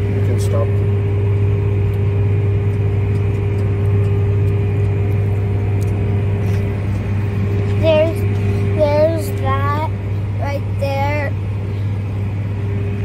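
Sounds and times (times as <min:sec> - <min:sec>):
constant whine: 0:00.0 - 0:13.0
tractor engine drone: 0:00.0 - 0:13.0.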